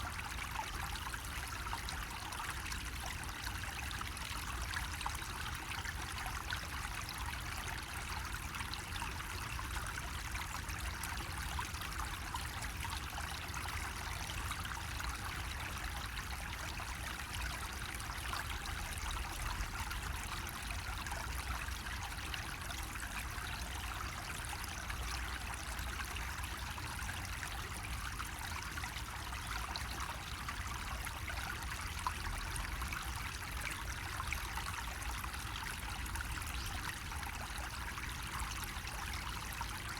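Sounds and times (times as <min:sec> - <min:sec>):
water trickling from faucet: 0:00.1 - 0:39.9.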